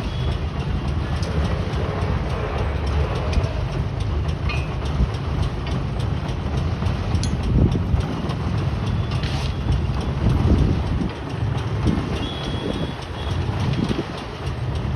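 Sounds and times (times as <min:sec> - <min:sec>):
pile-driving machinery rumbling: 0:00.0 - 0:14.9.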